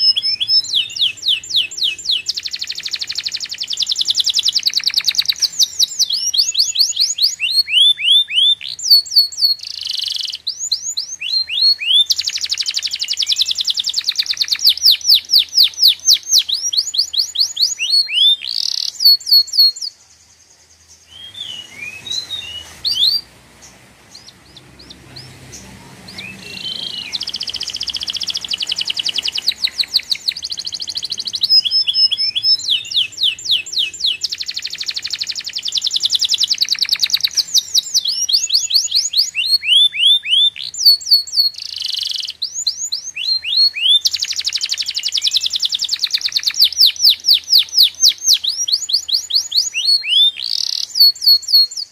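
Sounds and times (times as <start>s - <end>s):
small bird singing: 0.0s - 51.9s.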